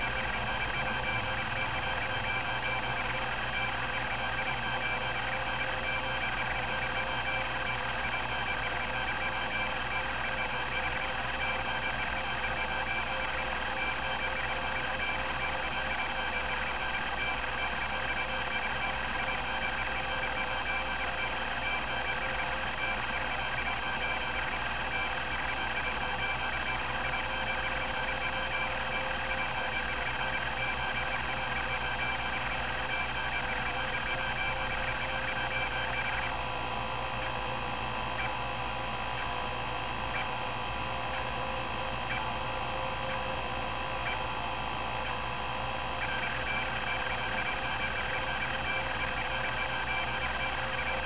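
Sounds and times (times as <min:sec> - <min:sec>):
hard drive whine: 0:00.0 - 0:51.0.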